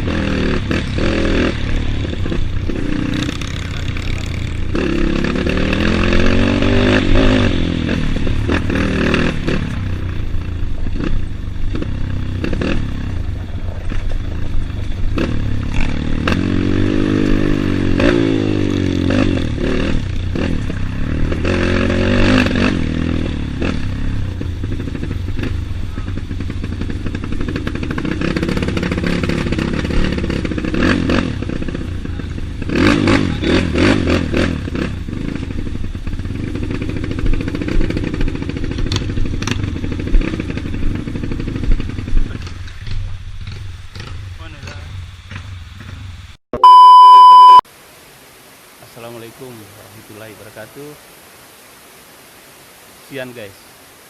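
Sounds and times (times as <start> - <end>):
motorcycle engine revving: 0.0 - 47.6.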